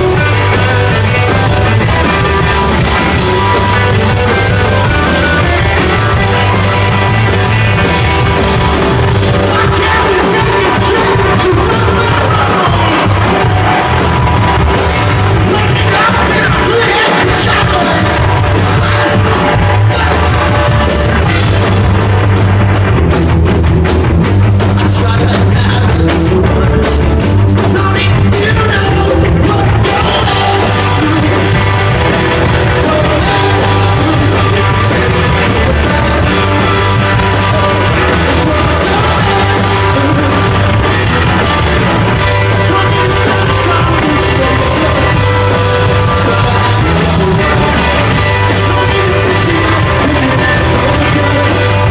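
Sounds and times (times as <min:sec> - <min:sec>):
person singing: 0:00.0 - 0:21.6, 0:24.8 - 0:27.0, 0:27.6 - 0:51.9
punk rock band playing live: 0:00.0 - 0:51.9.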